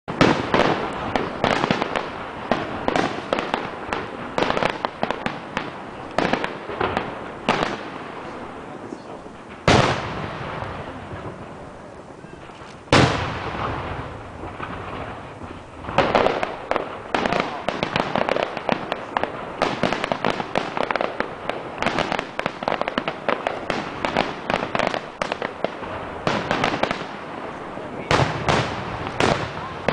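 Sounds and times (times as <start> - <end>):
firework bursts and crackle: 0.0 - 29.9
firework booms echoing: 0.1 - 29.9.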